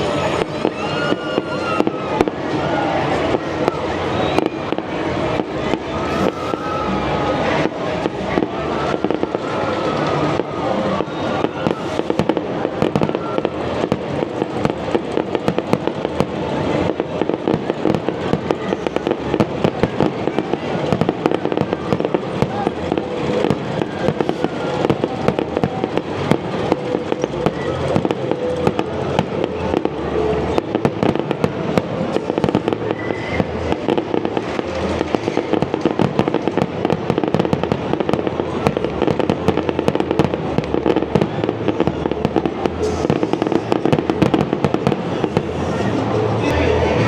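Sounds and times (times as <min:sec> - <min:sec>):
fireworks crackling pops: 0:00.0 - 0:46.6
fireworks low booms: 0:00.0 - 0:46.6.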